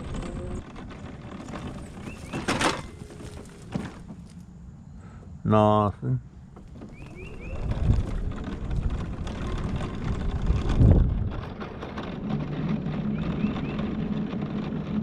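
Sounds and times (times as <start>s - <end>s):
wind rumbling on microphone: 0.0s - 4.4s, 6.5s - 15.0s
low engine hum: 0.0s - 15.0s.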